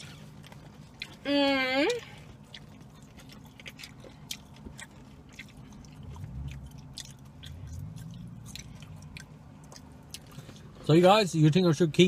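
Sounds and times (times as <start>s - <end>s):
close-up chewing: 0.0s - 1.3s, 1.9s - 11.6s.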